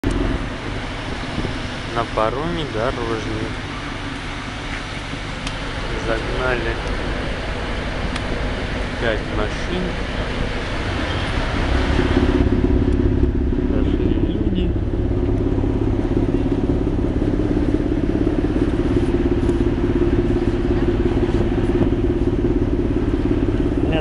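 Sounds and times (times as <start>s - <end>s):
ferry engine droning: 0.0s - 24.0s.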